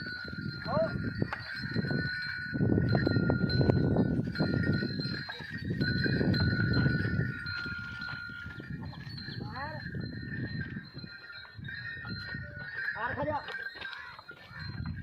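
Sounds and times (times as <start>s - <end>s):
animal bells ringing: 0.0s - 15.0s.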